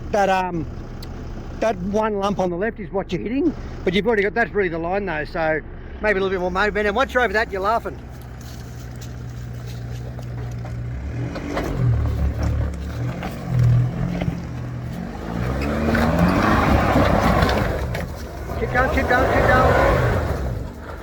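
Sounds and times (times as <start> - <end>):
off-road vehicle engine revving: 3.2 - 21.0.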